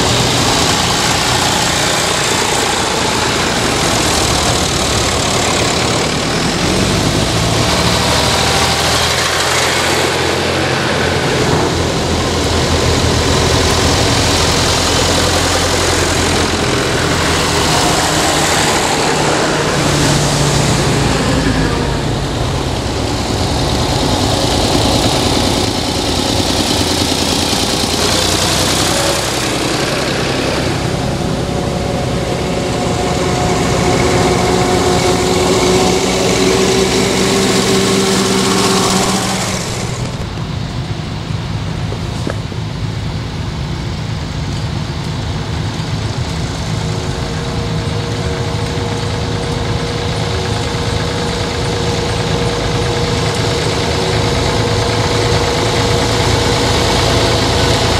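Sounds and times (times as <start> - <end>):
tractor engine running steadily: 0.0 - 57.9
tractor engines passing: 0.0 - 57.9.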